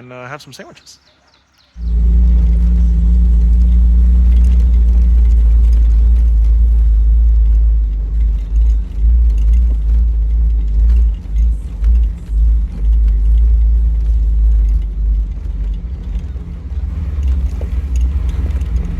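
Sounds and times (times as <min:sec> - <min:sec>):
small rattles: 0:01.8 - 0:18.9
vehicle engine rumble: 0:01.8 - 0:18.9.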